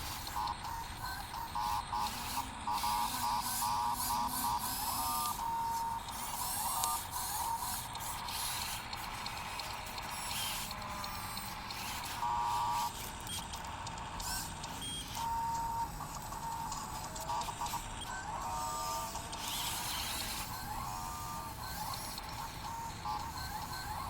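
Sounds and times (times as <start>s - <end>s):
gears clicking: 0.0s - 24.0s
small electric motors whining: 0.0s - 24.0s.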